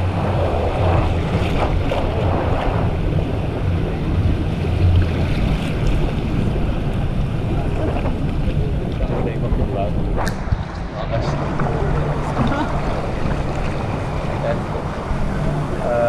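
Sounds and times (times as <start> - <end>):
water churning through rapids: 0.0 - 16.0
wind rumble on microphone: 0.0 - 16.0.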